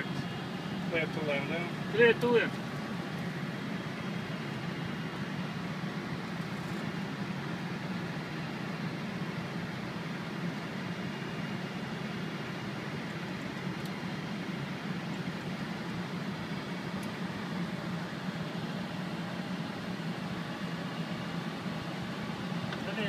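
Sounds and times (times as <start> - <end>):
air-conditioning noise: 0.0 - 23.0.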